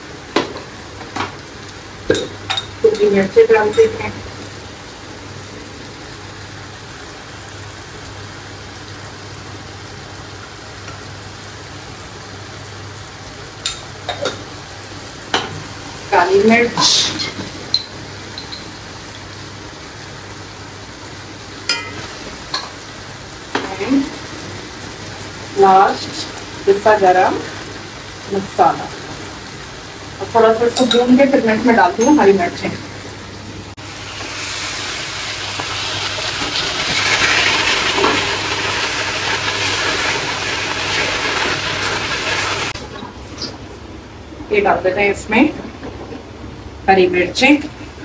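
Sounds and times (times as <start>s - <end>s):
food sizzling in a wok: 0.0s - 42.8s.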